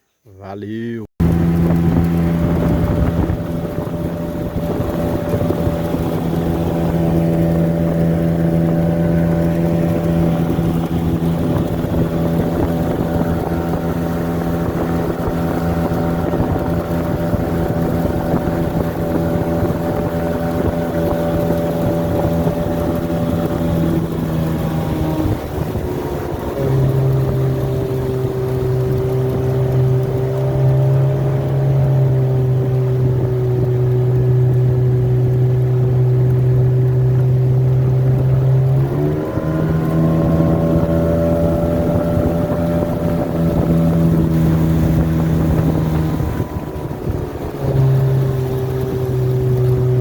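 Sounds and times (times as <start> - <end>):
outboard motor running: 1.2 - 50.0
wind buffeting microphone: 1.2 - 50.0.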